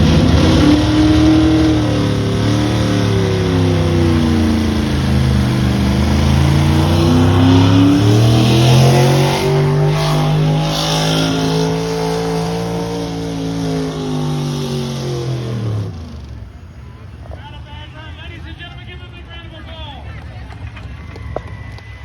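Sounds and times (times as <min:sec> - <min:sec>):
pulling vehicle engine under load: 0:00.0 - 0:17.8.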